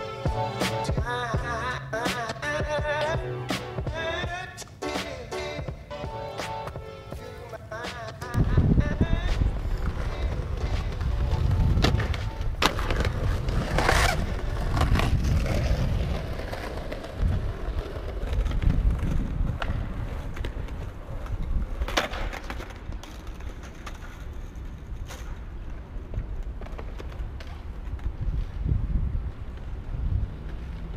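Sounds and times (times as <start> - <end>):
skateboard clacking on ground: 0.0 - 30.9
skateboard rolling on stone: 0.0 - 30.9.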